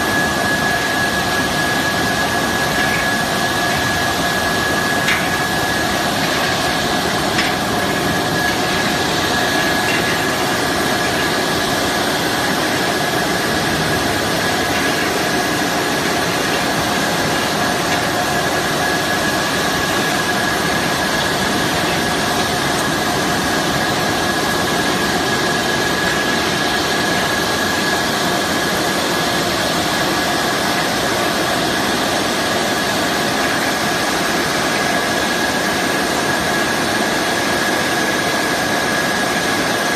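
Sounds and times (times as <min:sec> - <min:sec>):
steady machine whine: 0:00.0 - 0:39.9
washing machine running: 0:00.0 - 0:39.9.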